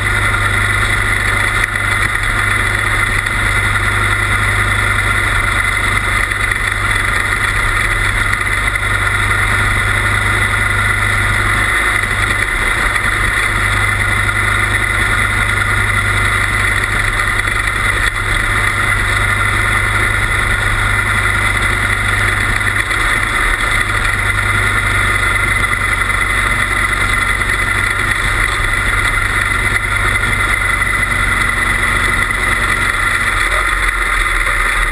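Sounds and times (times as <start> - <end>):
small race car engine running: 0.0 - 34.9.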